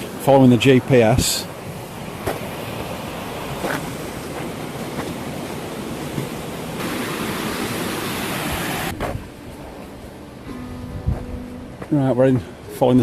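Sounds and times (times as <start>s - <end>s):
wind rushing across microphone: 0.0s - 11.5s.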